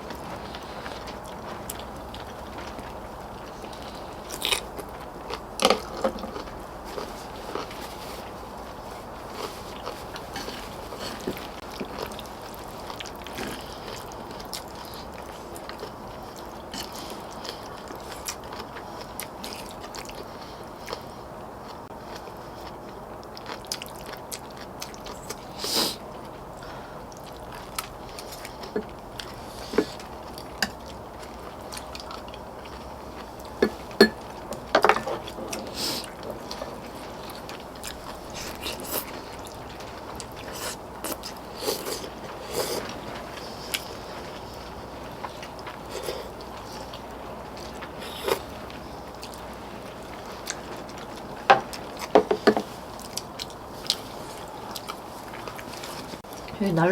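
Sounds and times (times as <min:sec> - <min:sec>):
people chewing and eating: 0:00.0 - 0:56.9.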